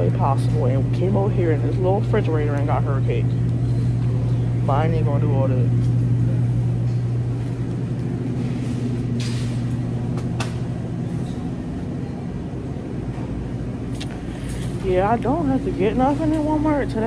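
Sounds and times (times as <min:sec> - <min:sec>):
electrical hum and rumble: 0:00.0 - 0:17.0.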